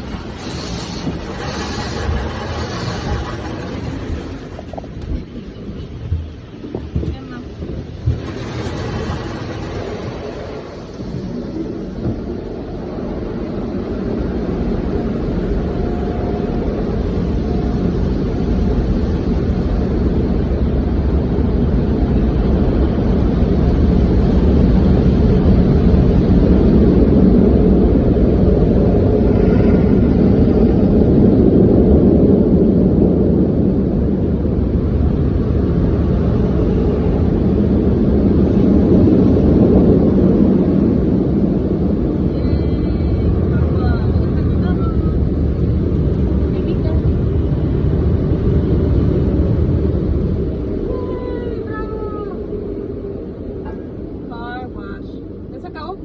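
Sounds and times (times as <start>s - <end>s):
car wash machinery running: 0.0s - 55.8s.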